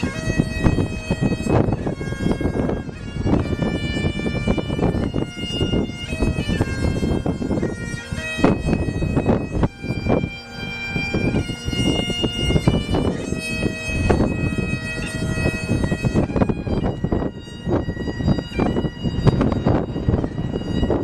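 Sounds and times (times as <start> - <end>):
slow wind instrument melody: 0.0 - 21.0
steady low rumble: 0.0 - 21.0.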